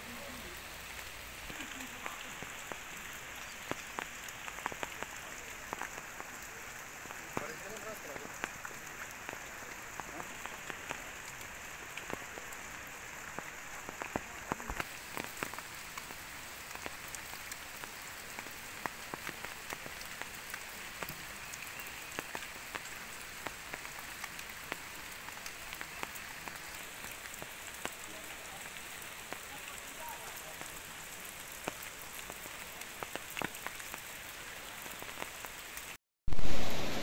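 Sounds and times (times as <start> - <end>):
raindrops ticking near microphone: 0.0 - 36.0
heavy rain falling: 0.0 - 37.0.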